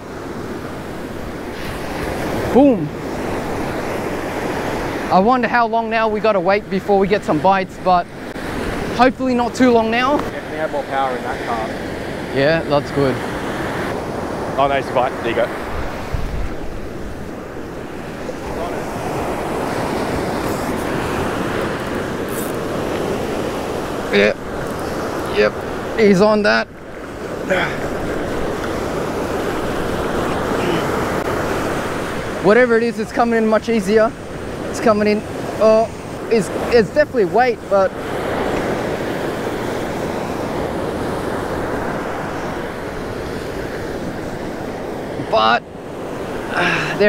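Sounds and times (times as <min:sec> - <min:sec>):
surf breaking on a beach: 0:00.0 - 0:47.0
wind buffeting microphone: 0:00.0 - 0:47.0.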